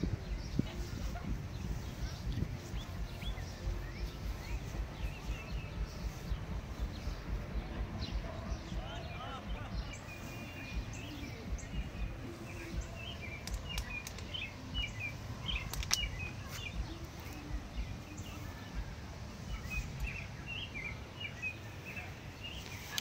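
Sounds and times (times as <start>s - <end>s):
low outdoor rumble: 0.0s - 23.0s
songbirds chirping: 0.0s - 23.0s.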